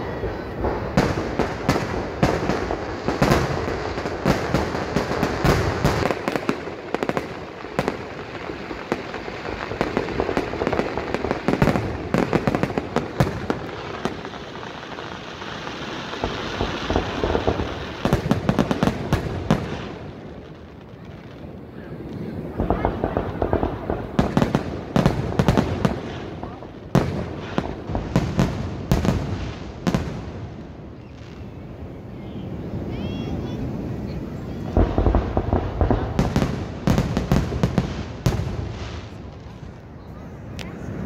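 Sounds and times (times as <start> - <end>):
fireworks bangs and pops: 0.0 - 31.6, 32.6 - 41.0
fireworks crackling: 0.0 - 41.0.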